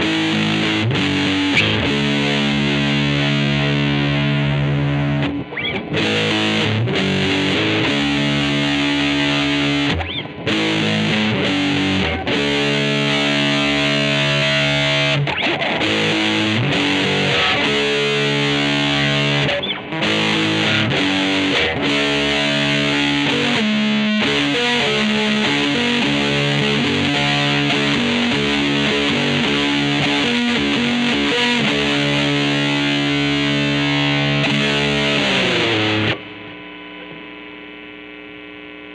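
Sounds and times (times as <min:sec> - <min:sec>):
distorted electric guitar chords: 0:00.0 - 0:38.9.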